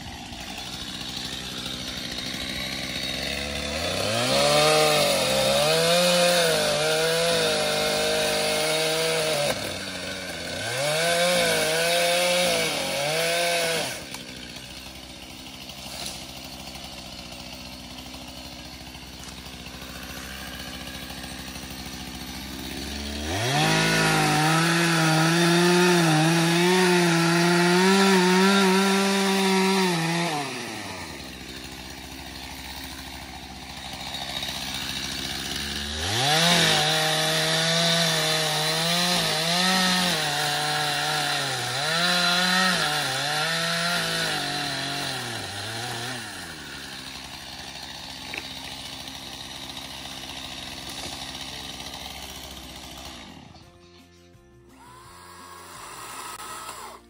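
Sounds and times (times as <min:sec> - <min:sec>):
chainsaw cutting wood: 0:00.0 - 0:57.0
chainsaw idling and revving: 0:00.0 - 0:57.0.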